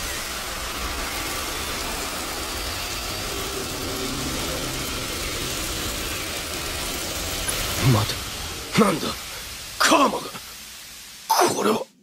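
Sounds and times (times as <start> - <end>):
low rumble with hiss: 0.0 - 11.3.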